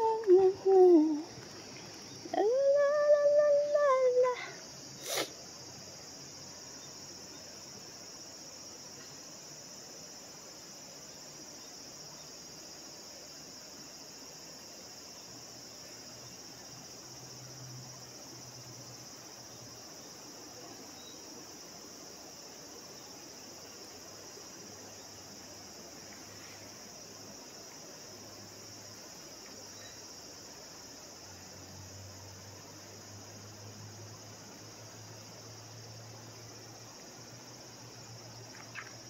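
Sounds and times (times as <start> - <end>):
insects chirping: 0.0 - 39.0.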